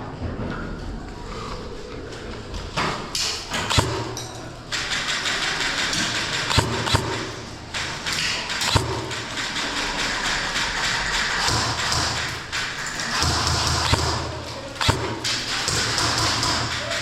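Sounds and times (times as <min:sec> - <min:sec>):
sharp knocks and cracks: 0:02.8 - 0:17.0.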